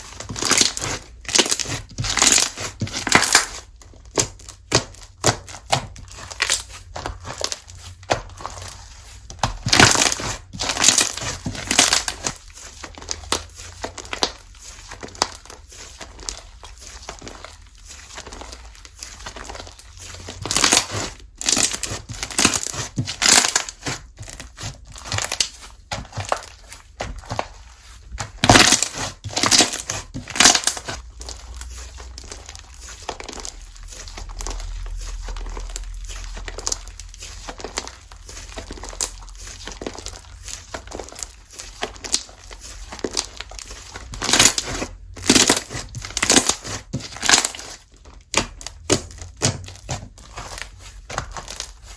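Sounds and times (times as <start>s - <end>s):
slime squished by hand: 0.0s - 51.9s.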